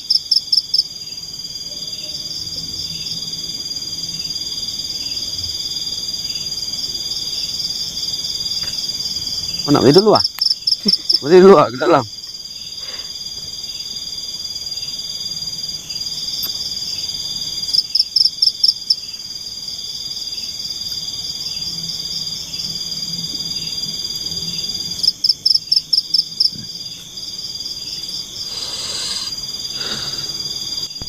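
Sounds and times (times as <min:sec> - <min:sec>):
insect trill: 0:00.0 - 0:31.0
quick pulsed insect calls: 0:00.0 - 0:31.0.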